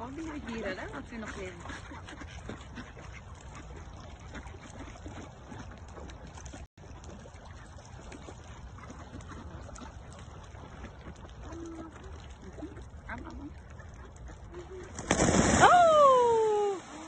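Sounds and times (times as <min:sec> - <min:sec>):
small water splashes: 0:00.0 - 0:17.0
ducks pecking: 0:00.1 - 0:06.7, 0:07.8 - 0:15.2.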